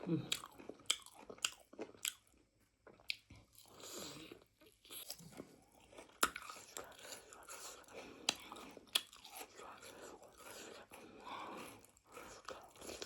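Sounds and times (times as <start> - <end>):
person chewing meat: 0.2 - 13.0.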